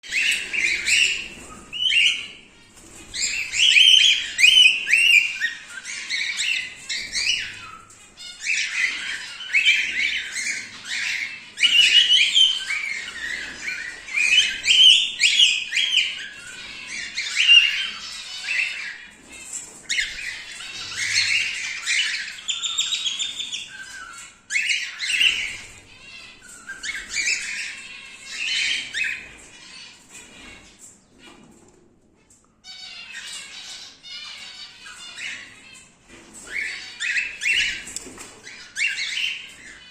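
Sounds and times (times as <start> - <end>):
cockatiel chirping and squawking: 0.1 - 31.5, 32.6 - 39.9.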